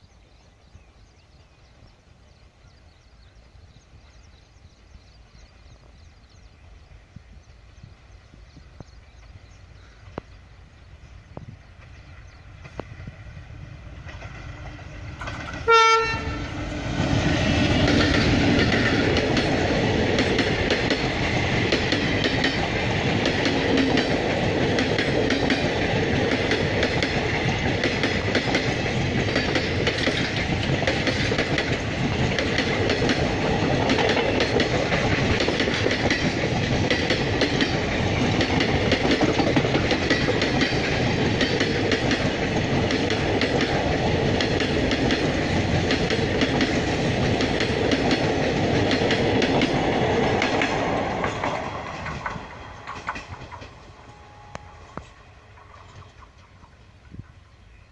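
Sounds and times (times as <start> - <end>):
train wheels clattering on rails: 11.1 - 57.6.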